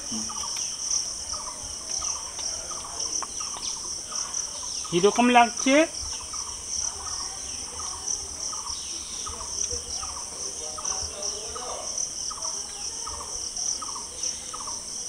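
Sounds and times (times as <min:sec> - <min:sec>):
insects trilling: 0:00.0 - 0:15.0
low insect chirp: 0:00.0 - 0:15.0.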